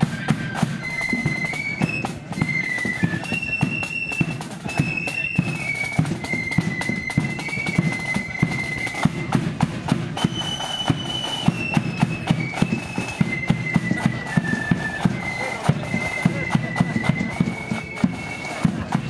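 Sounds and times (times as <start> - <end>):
drums beating a steady rhythm: 0.0 - 19.0
flutes playing a march melody: 0.0 - 19.0.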